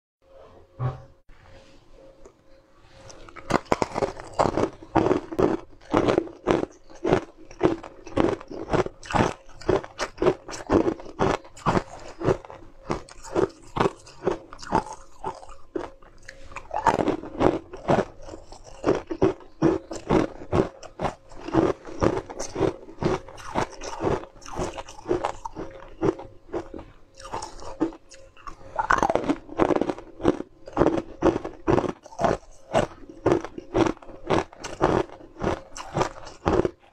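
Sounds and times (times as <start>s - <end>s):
ice cubes crunching in mouth: 3.1s - 36.9s.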